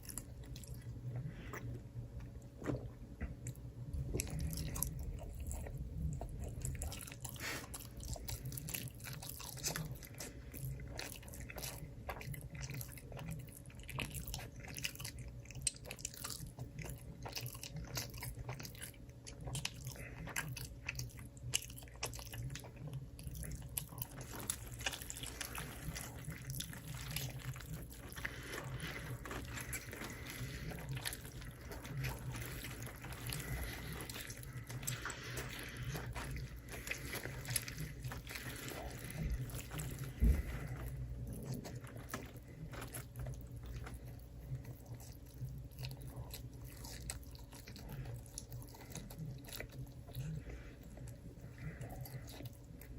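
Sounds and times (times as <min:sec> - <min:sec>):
chewing crunchy food: 0:00.0 - 0:52.9.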